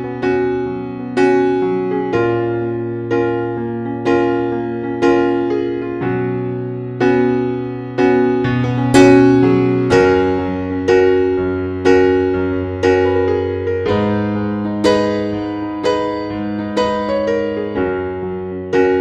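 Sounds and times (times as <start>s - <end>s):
piano playing sustained chords: 0.0s - 19.0s.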